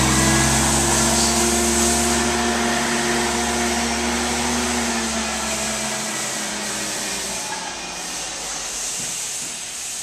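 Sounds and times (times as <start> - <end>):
forklift engine running: 0.0 - 10.0.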